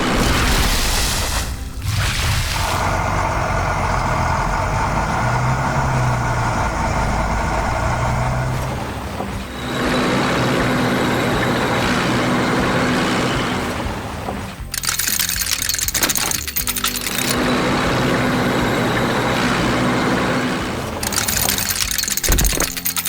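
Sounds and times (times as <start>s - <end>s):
different engine sound: 2.8s - 14.0s, 14.7s - 23.0s
heavy vehicle engine running: 2.8s - 22.8s.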